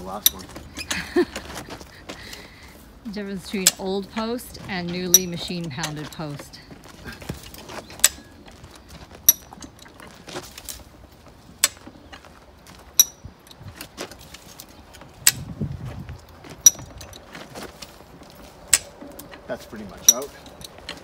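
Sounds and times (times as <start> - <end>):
farm jack clicking: 3.4 - 21.0.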